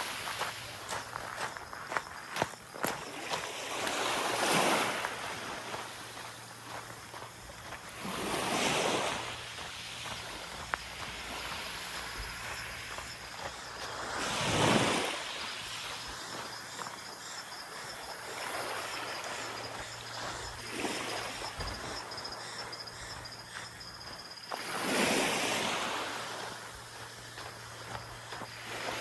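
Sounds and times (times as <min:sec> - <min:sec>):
small waves washing onto beach: 0:00.0 - 0:29.0.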